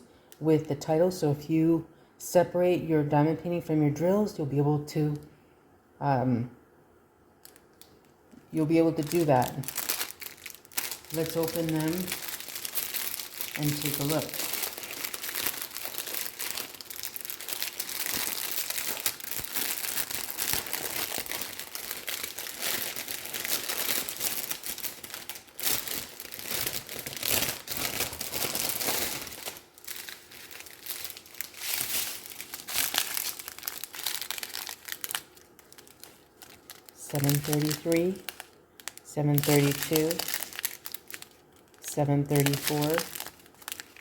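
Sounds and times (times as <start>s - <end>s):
plastic packaging crinkling: 7.4s - 44.0s.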